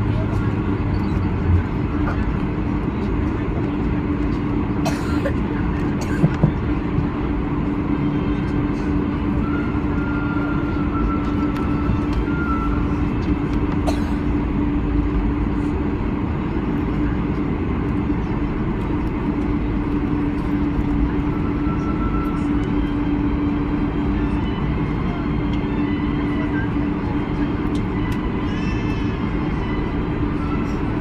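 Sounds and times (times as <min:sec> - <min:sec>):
airliner cabin roar: 0:00.0 - 0:31.0.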